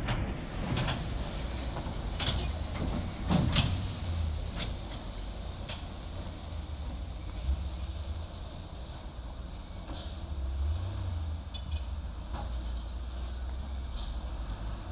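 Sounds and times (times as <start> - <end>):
truck engine rumble: 0.0 - 14.9.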